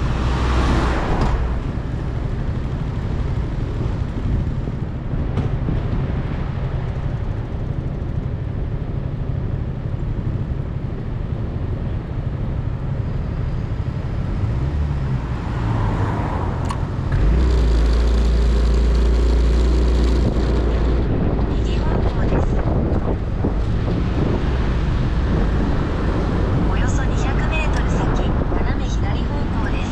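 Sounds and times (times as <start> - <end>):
motorcycle engine running: 0.0 - 14.9, 16.6 - 28.5
road and traffic noise: 0.0 - 29.9.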